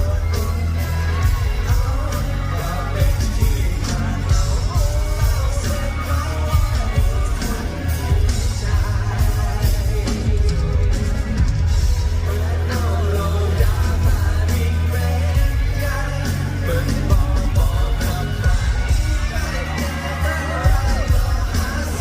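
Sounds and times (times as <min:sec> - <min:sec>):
live rock band: 0:00.0 - 0:22.0
person singing: 0:00.0 - 0:22.0.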